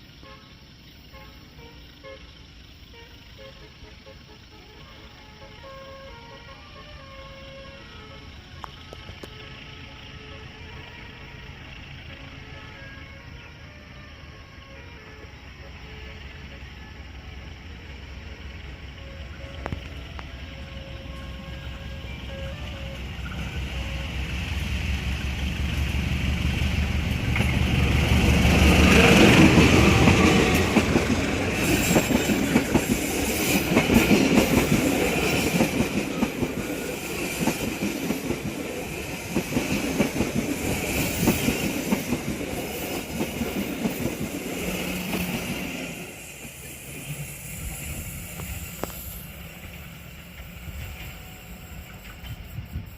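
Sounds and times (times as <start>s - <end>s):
diesel locomotive rumble: 0.0s - 52.9s
train wheels clicking on rail joints: 7.0s - 12.2s, 14.6s - 52.9s.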